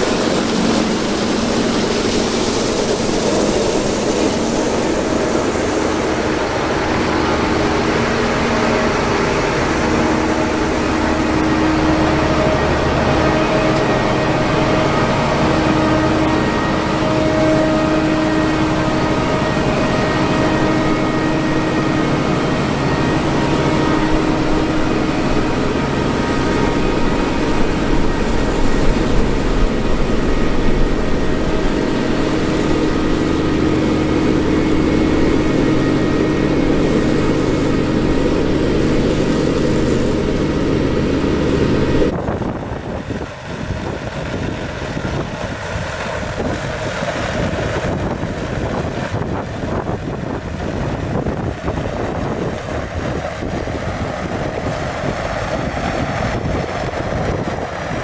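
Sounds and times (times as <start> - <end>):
harvester diesel hum: 0.0 - 58.0
machine whining tones: 0.0 - 58.0
wind rumbling on microphone: 0.0 - 58.0.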